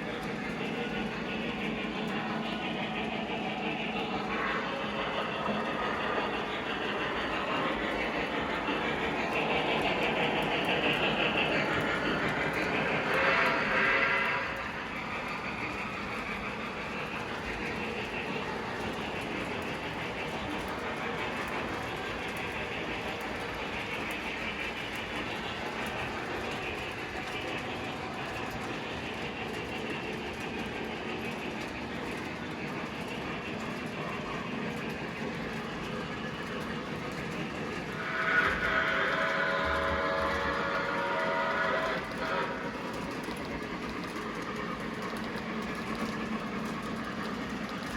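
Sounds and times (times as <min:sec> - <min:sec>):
model train rumbling on track: 0:00.0 - 0:47.9.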